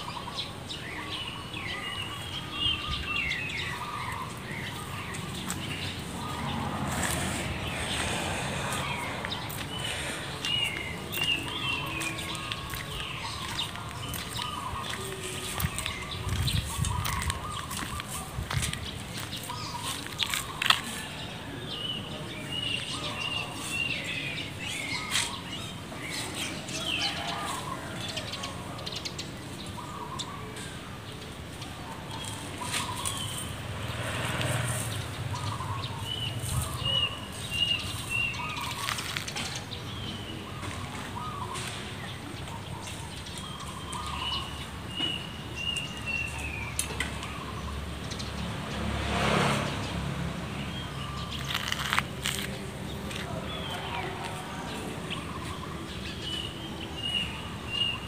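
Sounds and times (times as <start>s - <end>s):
birds singing: 0.0s - 58.0s
footsteps on pavement: 3.0s - 28.4s, 32.2s - 47.4s, 50.5s - 58.0s.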